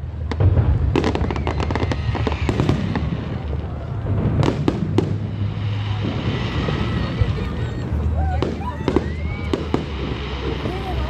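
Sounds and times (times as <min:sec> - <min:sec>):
fireworks bangs: 0:00.0 - 0:11.0
fireworks crackling pops: 0:00.0 - 0:11.0
low rumble: 0:00.0 - 0:11.0.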